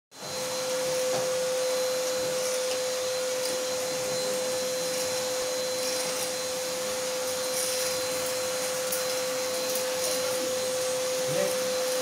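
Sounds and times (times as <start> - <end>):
vacuum cleaner running: 0.1 - 12.0.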